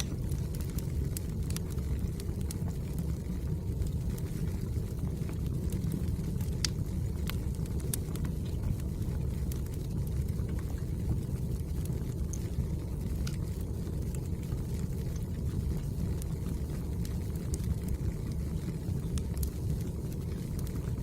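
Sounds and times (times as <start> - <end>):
firewood crackling and popping: 0.0 - 21.0
low rumble of flames: 0.0 - 21.0.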